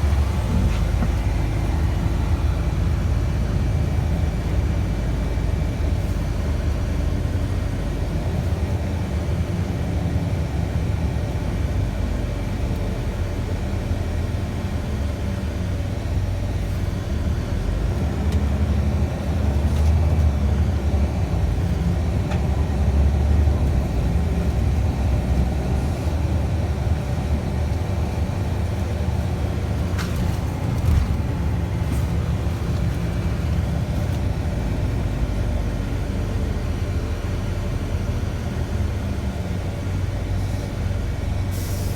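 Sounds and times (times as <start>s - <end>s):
bus engine rumbling: 0.0s - 41.9s.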